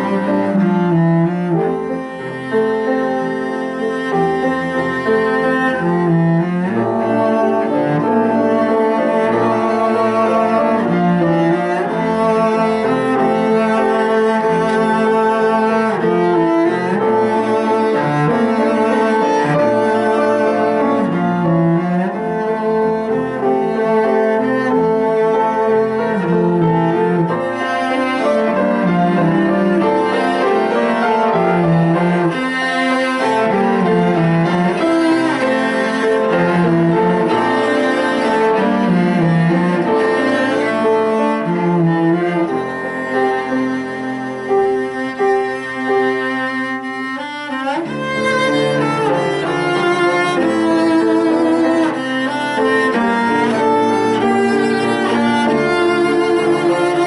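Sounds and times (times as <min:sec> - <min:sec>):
cello playing slow melody: 0:00.0 - 0:57.0.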